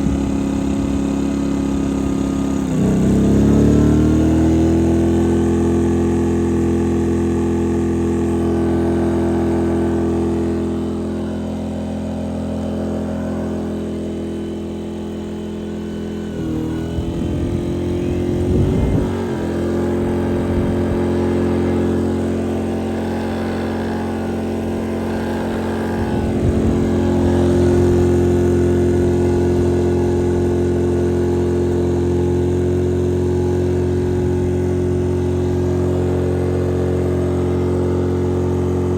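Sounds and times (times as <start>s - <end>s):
generator engine running under load: 0.0s - 38.9s.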